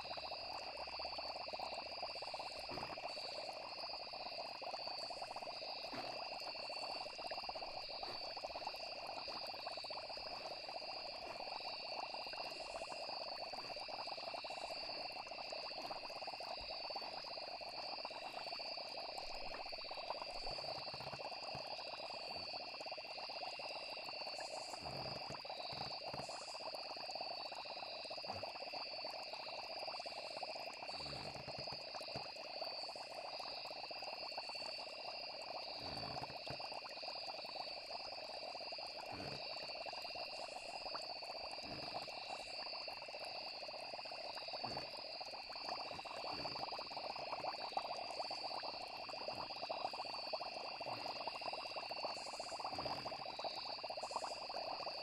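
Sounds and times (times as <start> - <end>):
frogs croaking: 0.0 - 55.0
insects trilling: 0.0 - 55.0.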